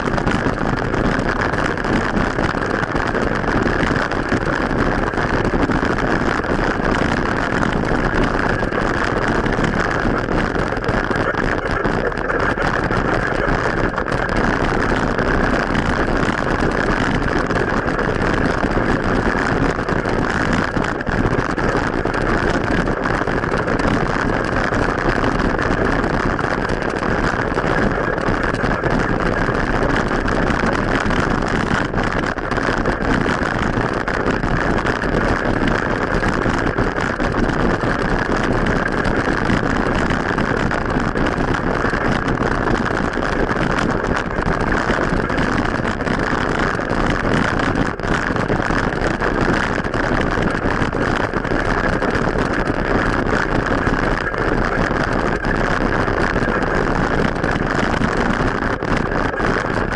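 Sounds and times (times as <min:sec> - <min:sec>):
rushing wind: 0:00.0 - 0:59.9.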